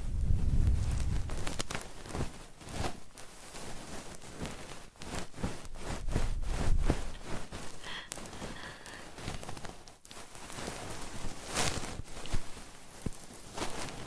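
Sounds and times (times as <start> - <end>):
scratching and clicking on microphone: 0.3 - 14.0.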